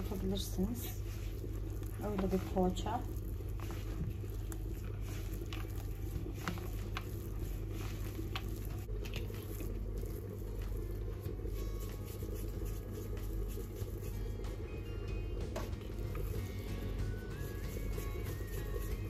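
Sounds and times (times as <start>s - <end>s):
dough squishing: 0.0s - 19.0s
low hum: 0.0s - 19.0s.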